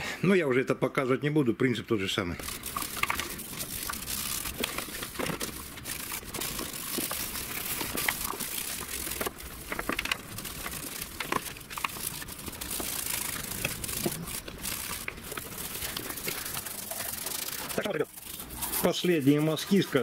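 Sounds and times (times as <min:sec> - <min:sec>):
brush scrubbing metal: 0:02.4 - 0:20.0.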